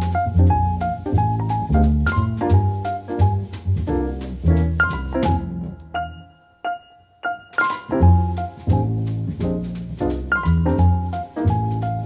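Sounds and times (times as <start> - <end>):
bass line: 0.0 - 6.3, 7.9 - 12.0
jazz piano chords: 0.0 - 12.0.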